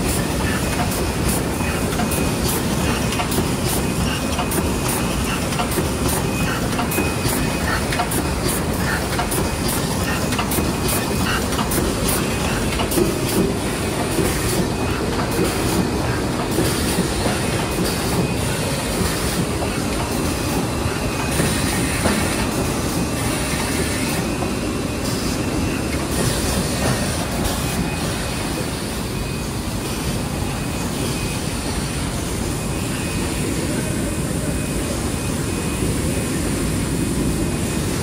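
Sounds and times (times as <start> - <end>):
wet-wipe machine running: 0.0 - 38.0.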